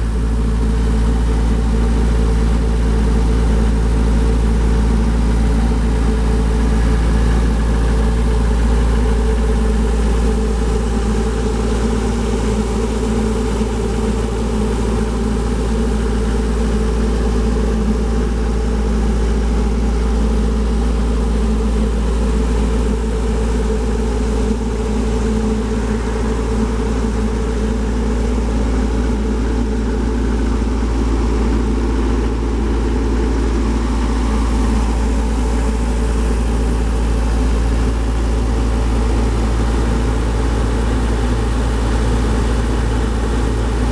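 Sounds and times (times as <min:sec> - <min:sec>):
diesel engine running steadily: 0:00.0 - 0:43.9.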